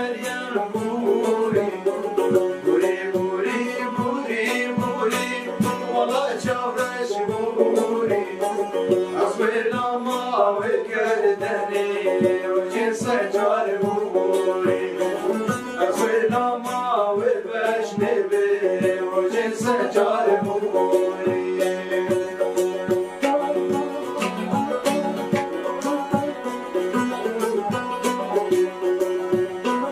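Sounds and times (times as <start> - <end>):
men singing: 0.0 - 29.9
plucked lutes folk melody: 0.0 - 29.9.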